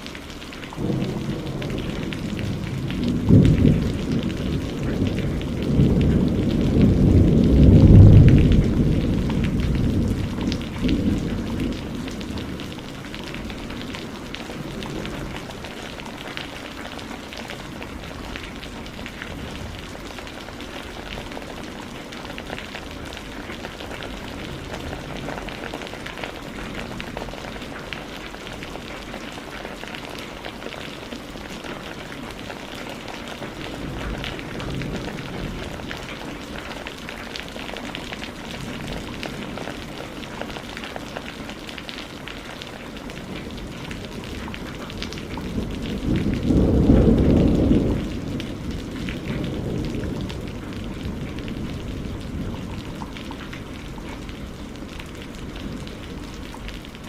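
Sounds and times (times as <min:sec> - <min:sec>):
steady rain: 0:00.0 - 0:57.0
thunder rumbling: 0:00.2 - 0:57.0.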